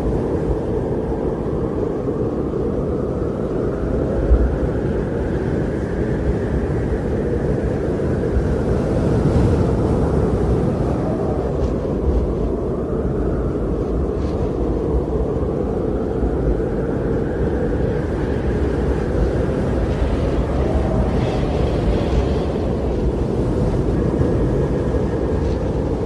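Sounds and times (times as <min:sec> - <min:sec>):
blizzard wind roaring: 0:00.0 - 0:26.0
low wind gusts buffeting: 0:00.0 - 0:26.0.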